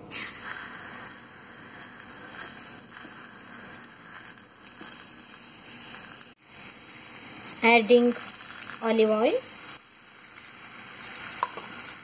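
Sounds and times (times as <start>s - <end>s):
food frying in oil: 0.1s - 12.0s.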